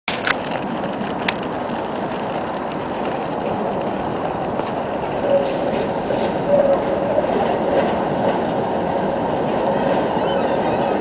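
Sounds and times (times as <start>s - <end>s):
tram running on tracks: 0.1s - 11.0s.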